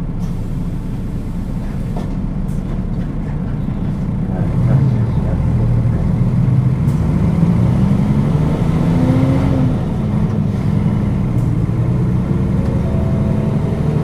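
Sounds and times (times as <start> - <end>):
bus diesel engine: 0.0 - 14.0.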